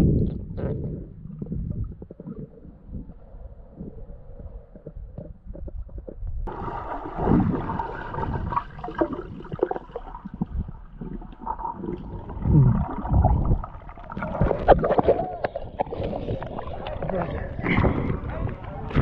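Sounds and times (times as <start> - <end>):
knocks and clicks underwater: 0.0 - 3.1, 4.5 - 19.0
low underwater rumbles: 0.0 - 19.0
underwater gurgling and bubbles: 0.0 - 19.0.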